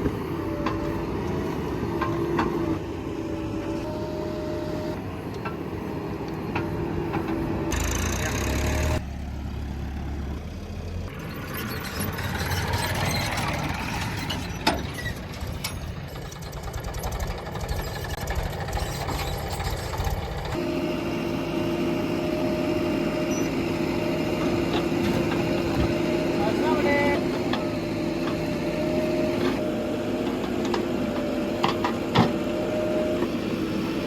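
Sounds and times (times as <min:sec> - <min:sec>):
diesel machinery engines running: 0:00.0 - 0:34.0.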